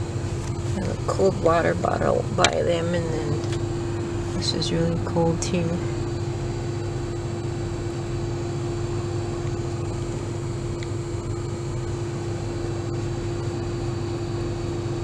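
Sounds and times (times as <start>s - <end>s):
car engine rumble inside cabin: 0.0s - 15.0s
constant hum: 0.0s - 15.0s.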